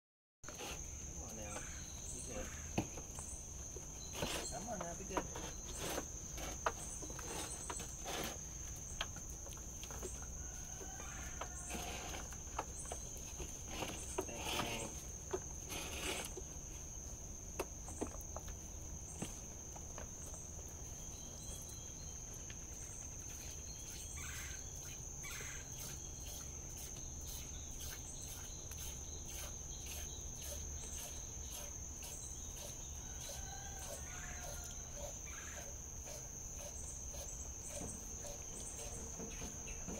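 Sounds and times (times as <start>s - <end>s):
insects droning: 0.5s - 39.9s.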